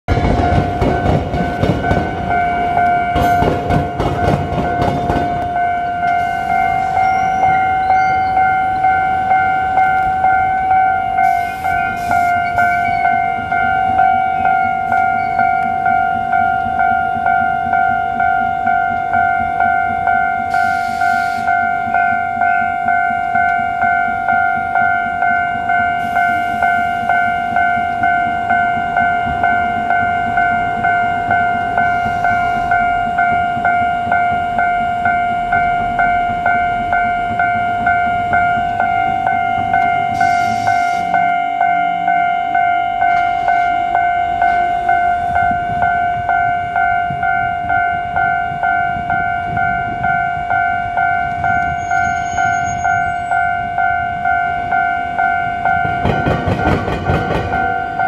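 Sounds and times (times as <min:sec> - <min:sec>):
level crossing warning bell: 0:00.1 - 0:58.0
train wheels clacking over crossing: 0:00.1 - 0:58.0.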